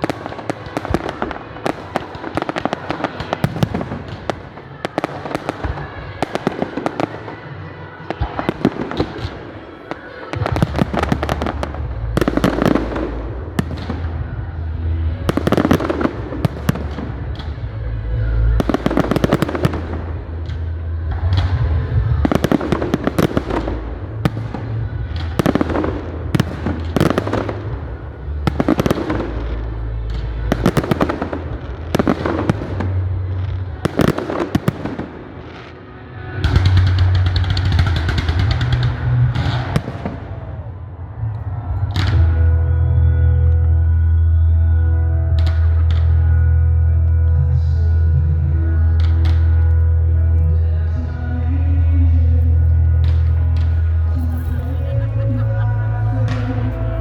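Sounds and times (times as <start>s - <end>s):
fireworks bangs and crackling: 0.0s - 42.6s, 50.8s - 57.0s
continuous low rumble: 10.4s - 35.3s, 36.2s - 57.0s.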